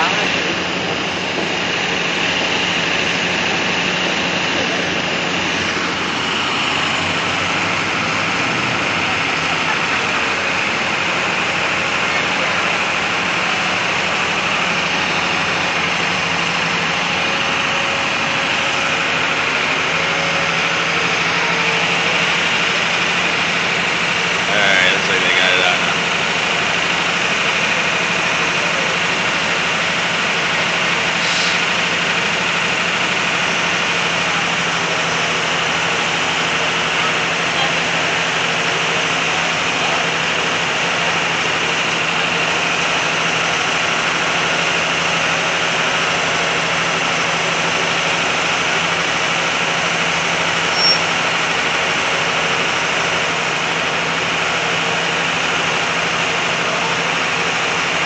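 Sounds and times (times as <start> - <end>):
street noise hiss: 0.0 - 58.0
vehicle engines idling: 0.0 - 58.0.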